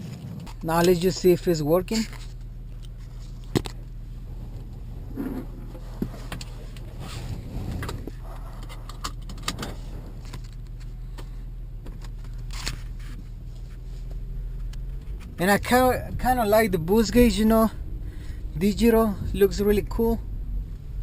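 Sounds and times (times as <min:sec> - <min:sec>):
sharp clicks and rattles: 0:00.0 - 0:17.6
car engine idling: 0:00.0 - 0:21.0.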